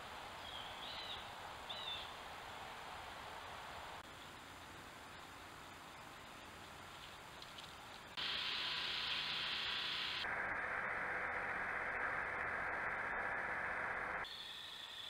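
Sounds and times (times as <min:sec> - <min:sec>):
recording hiss: 0:00.0 - 0:15.0.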